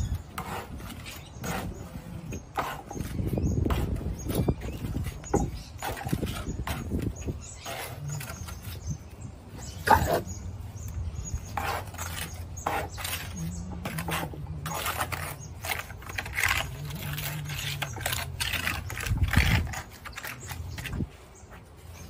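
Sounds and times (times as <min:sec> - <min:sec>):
trowel scraping and slapping render: 0:00.0 - 0:22.0.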